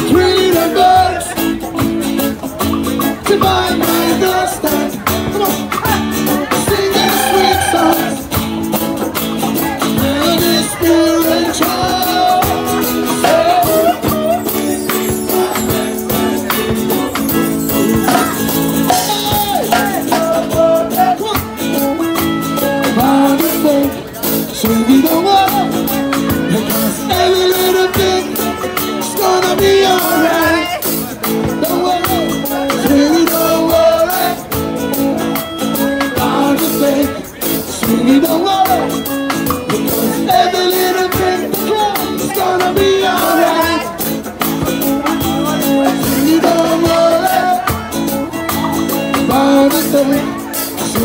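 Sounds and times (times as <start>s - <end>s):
acoustic guitar: 0.0s - 51.0s
drum kit: 0.0s - 51.0s
hand drum: 0.0s - 51.0s
man singing lead: 0.0s - 51.0s.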